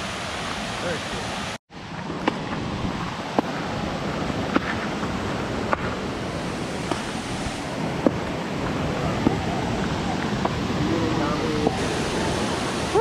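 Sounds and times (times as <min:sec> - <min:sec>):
river water rushing over falls: 0:00.0 - 0:13.0
wind on microphone: 0:01.8 - 0:13.0.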